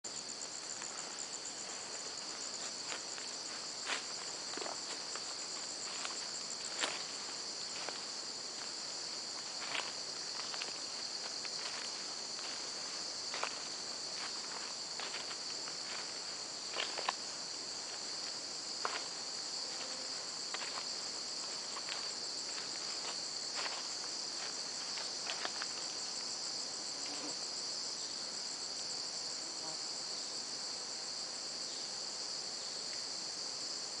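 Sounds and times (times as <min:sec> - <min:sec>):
chorus of insects: 0:00.0 - 0:34.0.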